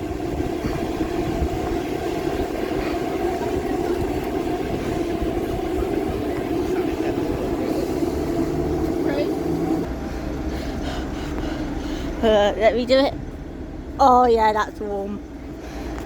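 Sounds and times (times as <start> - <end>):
diesel train idling: 0.0 - 16.0.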